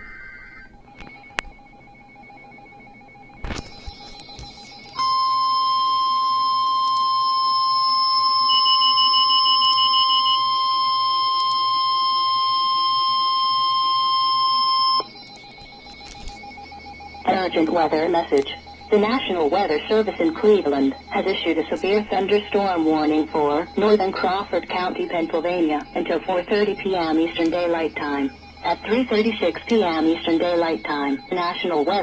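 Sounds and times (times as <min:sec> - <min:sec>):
faint hum: 0:00.0 - 0:32.0
steady alarm tone: 0:00.0 - 0:32.0.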